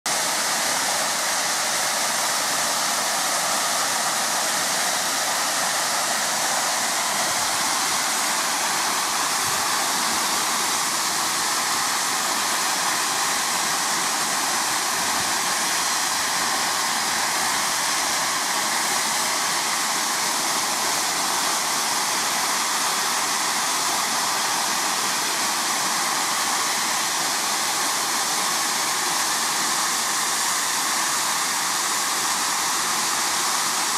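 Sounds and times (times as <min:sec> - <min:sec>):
steam roaring from safety valves: 0:00.1 - 0:33.9.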